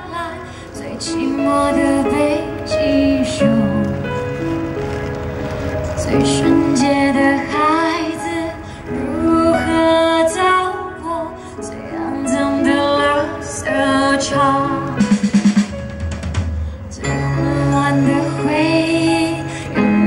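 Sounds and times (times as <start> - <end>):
woman singing pop ballad: 0.0 - 4.1, 6.0 - 15.0, 16.9 - 20.0
live band accompaniment: 0.0 - 11.2, 12.0 - 20.0.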